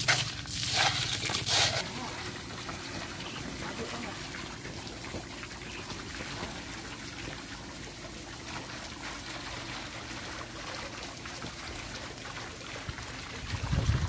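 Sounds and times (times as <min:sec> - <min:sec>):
water splashing and bubbling: 0:00.0 - 0:14.0.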